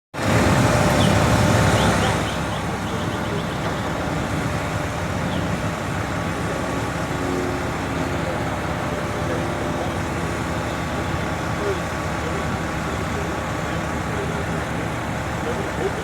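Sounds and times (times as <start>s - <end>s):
fire engines idling: 0.2s - 16.0s.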